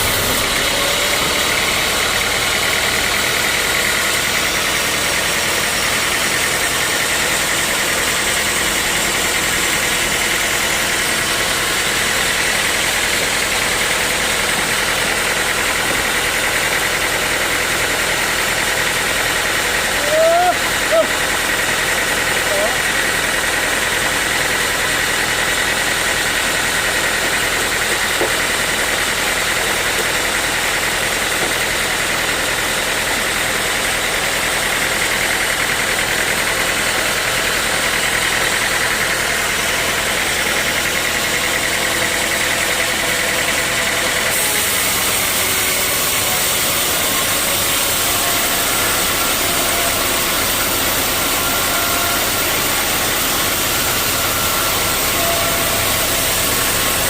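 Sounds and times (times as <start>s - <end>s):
high machine whine: 0.0s - 57.0s
sawmill machinery drone: 0.0s - 57.0s.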